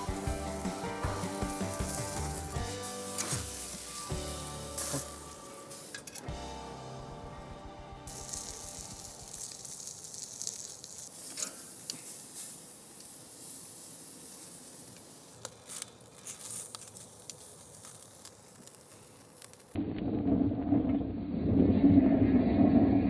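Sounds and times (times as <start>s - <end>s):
steak sizzling on a grill: 0.0s - 19.8s.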